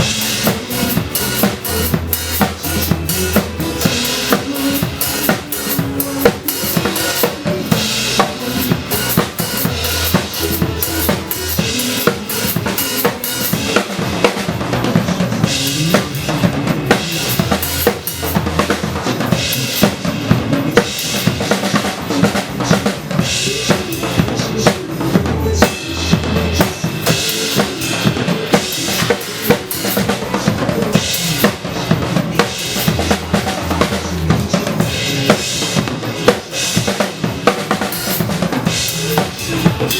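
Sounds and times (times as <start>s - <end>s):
pop song backing track: 0.0s - 39.9s.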